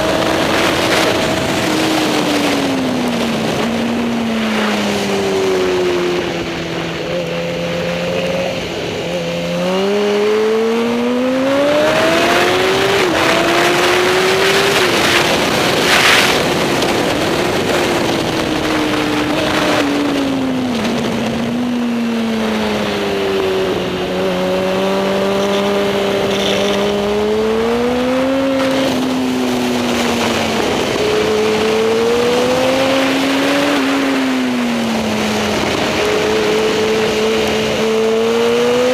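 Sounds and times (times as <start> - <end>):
racing motorcycle engines revving: 0.0 - 38.9.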